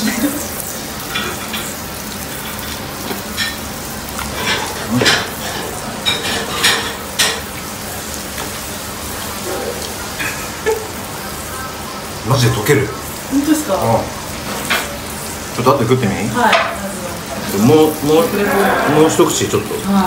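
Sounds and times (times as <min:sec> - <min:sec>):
steak sizzling on hot plate: 0:00.0 - 0:20.0.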